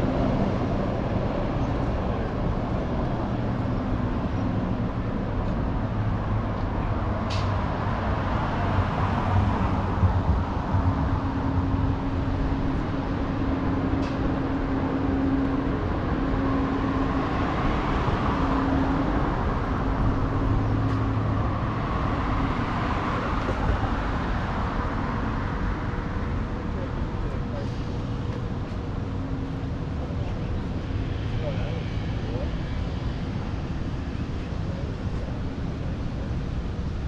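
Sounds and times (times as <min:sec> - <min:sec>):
traffic noise: 0:00.0 - 0:37.0
vehicle engine humming: 0:00.0 - 0:37.0.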